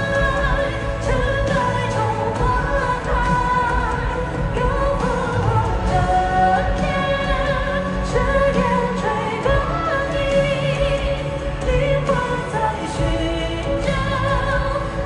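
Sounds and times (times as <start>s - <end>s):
live band with heavy bass: 0.0s - 15.0s.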